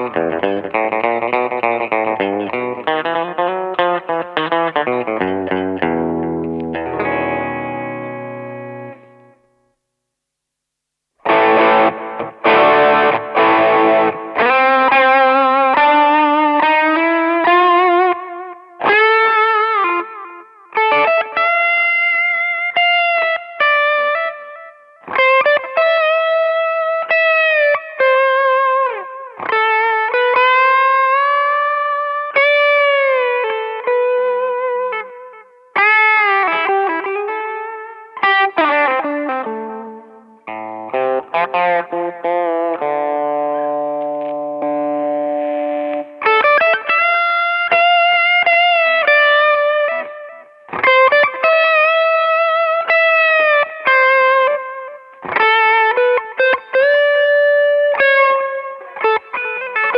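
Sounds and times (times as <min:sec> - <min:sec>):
electric guitar lead with bends: 0:00.0 - 0:09.5, 0:11.2 - 0:59.9.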